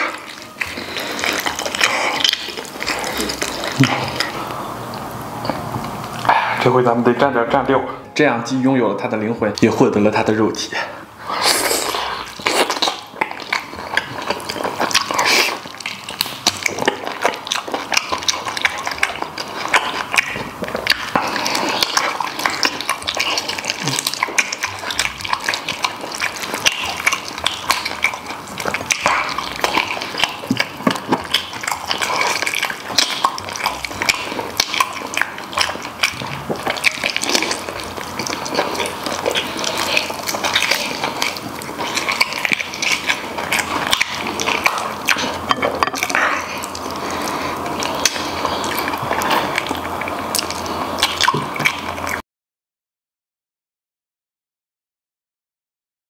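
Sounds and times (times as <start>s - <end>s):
wet chewing and lip smacking: 0.0s - 6.7s, 11.4s - 52.2s.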